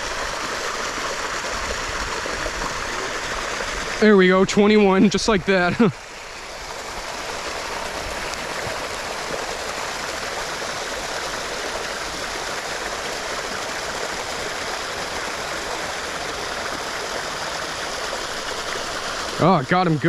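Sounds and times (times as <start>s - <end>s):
water pouring over waterfall: 0.0s - 20.0s.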